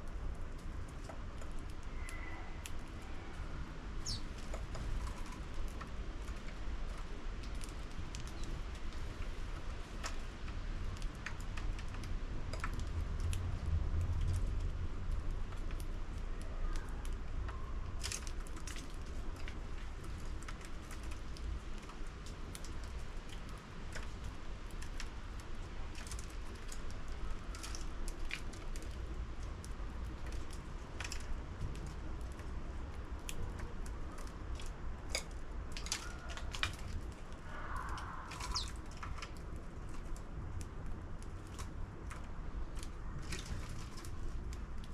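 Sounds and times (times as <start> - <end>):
sparrows pecking in plastic feeder: 0.9 - 12.9, 14.5 - 44.9.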